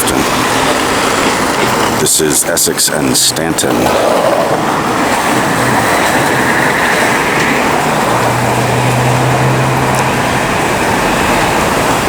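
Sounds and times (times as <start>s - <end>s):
low engine hum: 0.0s - 12.0s
passing vehicles rushing: 0.0s - 12.0s.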